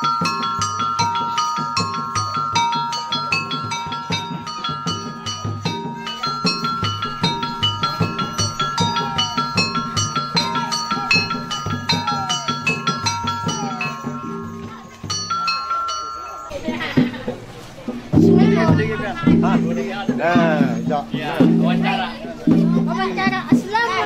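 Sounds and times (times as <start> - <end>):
steady drum beat: 0.0 - 24.0
tuned metal percussion pattern: 0.0 - 24.0.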